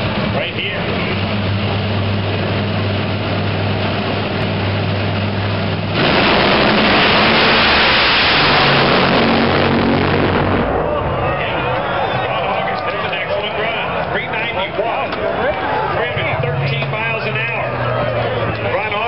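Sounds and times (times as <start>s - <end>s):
dragster engines revving: 0.0s - 19.0s.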